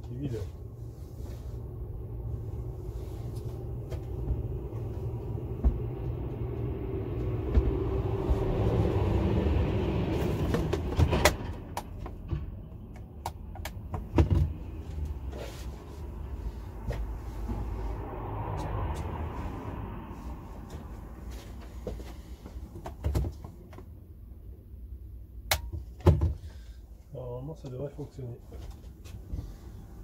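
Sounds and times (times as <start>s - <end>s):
steady low rumble: 0.0s - 25.5s.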